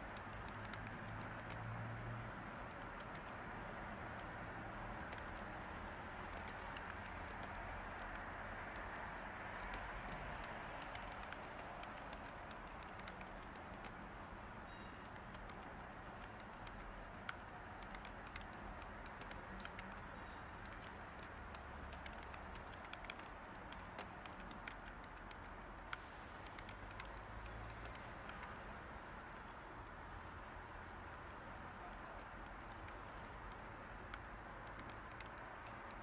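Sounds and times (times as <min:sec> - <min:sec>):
typing on computer keyboard: 0:00.0 - 0:14.1, 0:14.8 - 0:28.6, 0:31.9 - 0:36.0
white noise hiss: 0:01.1 - 0:36.0.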